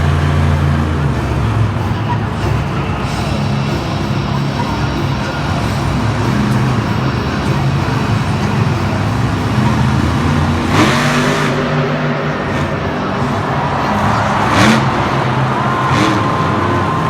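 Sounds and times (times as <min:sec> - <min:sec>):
vehicle engines revving: 0:00.0 - 0:17.0.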